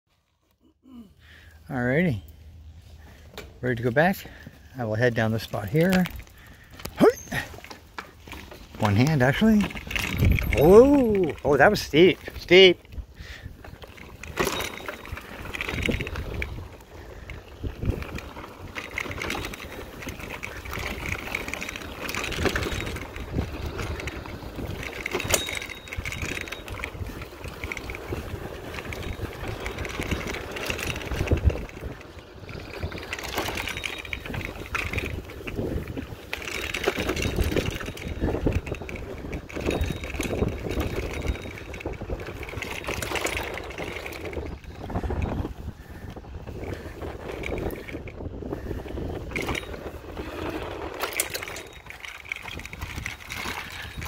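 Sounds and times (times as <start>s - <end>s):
bike rattling over bumps: 0.8s - 54.0s
bike tyres crunching on dirt: 1.9s - 54.0s
wind rumbling on microphone: 4.0s - 54.0s.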